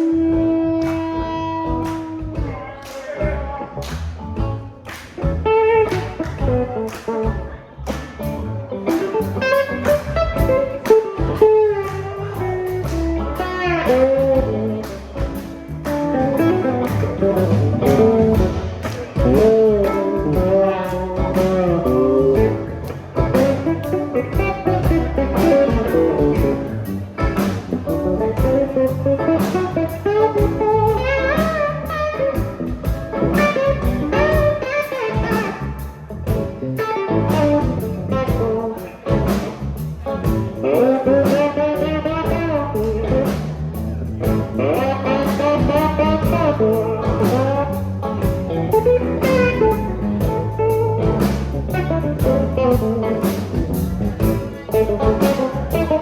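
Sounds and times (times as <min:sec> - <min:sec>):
electric guitar bending notes: 0:00.0 - 0:02.5, 0:04.2 - 0:56.0
bass guitar: 0:00.0 - 0:56.0
drums: 0:00.0 - 0:56.0.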